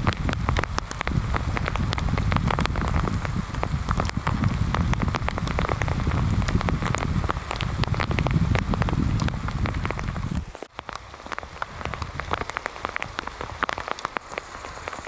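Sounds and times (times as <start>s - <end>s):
heavy rain falling: 0.0s - 15.0s
sharp raindrop hits: 0.0s - 15.0s.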